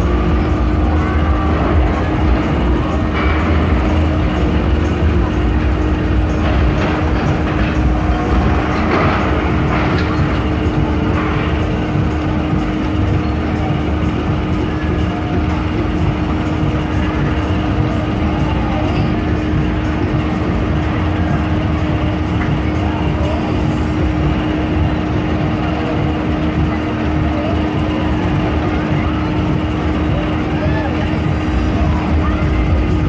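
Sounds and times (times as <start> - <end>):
fairground ride machinery rumble: 0.0 - 33.0.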